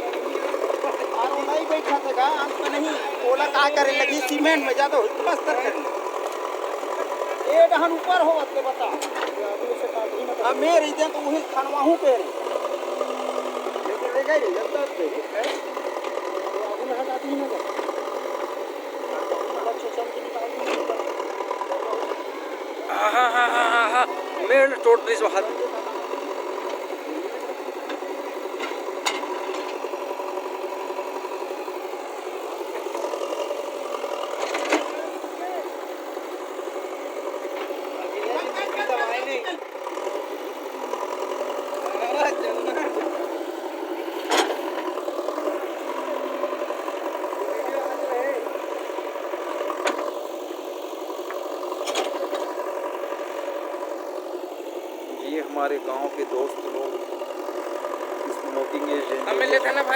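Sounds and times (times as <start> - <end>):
motor running with fine rattle: 0.0 - 59.9
steady mechanical hum: 0.0 - 59.9.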